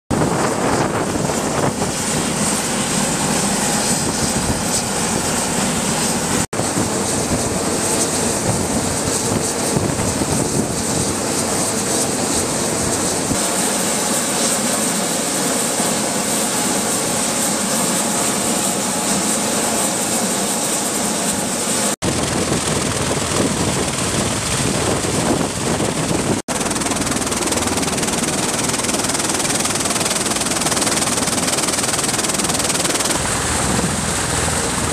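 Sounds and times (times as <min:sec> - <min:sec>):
turbine whine and rotor noise: 0:00.1 - 0:34.9.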